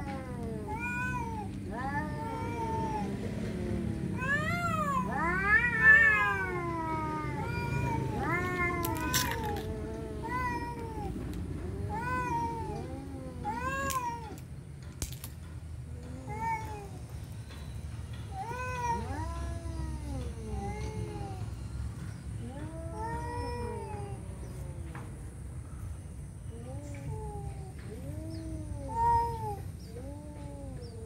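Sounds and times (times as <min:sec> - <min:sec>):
cats meowing: 0:00.0 - 0:14.5, 0:15.9 - 0:25.3, 0:26.5 - 0:31.0.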